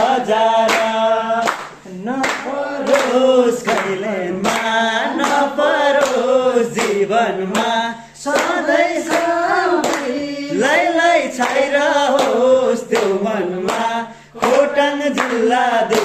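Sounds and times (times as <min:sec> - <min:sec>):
hand clapping: 0:00.0 - 0:16.0
men singing folk song: 0:00.0 - 0:16.0.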